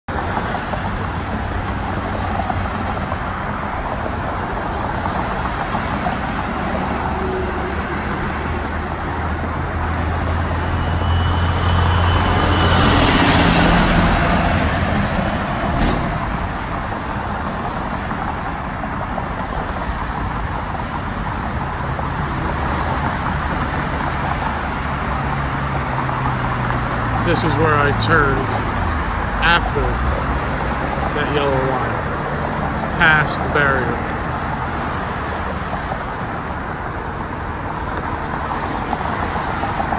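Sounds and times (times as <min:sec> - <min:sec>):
cars passing: 0:00.1 - 0:39.9.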